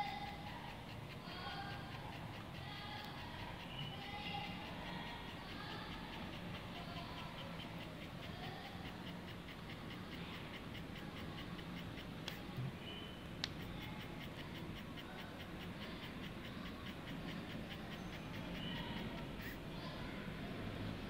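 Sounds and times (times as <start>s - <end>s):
pen motor whirring and ticking: 0.0s - 12.6s, 13.2s - 21.0s
sharp clicks: 0.0s - 19.7s.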